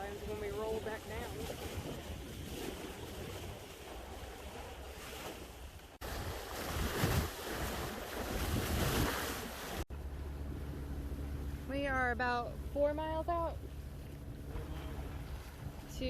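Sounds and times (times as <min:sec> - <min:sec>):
wind buffeting microphone: 0:00.0 - 0:09.8, 0:10.4 - 0:16.0
waves washing past a boat: 0:00.0 - 0:16.0.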